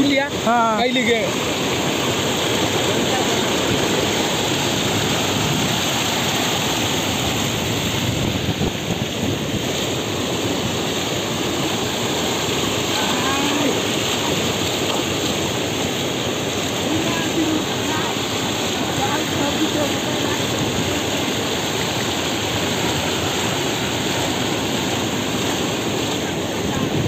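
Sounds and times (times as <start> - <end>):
floodwater rushing: 0.0 - 27.0
rain falling: 0.0 - 27.0.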